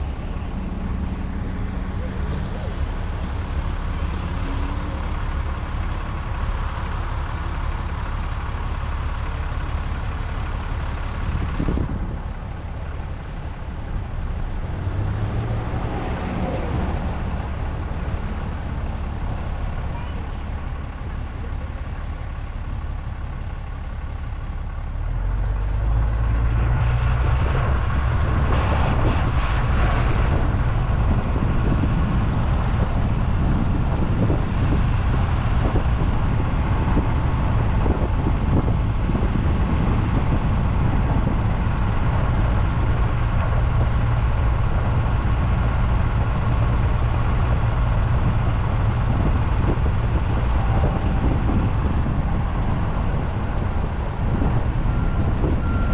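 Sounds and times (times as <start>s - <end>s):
vehicle engine and tyres rumbling: 0.0s - 55.9s.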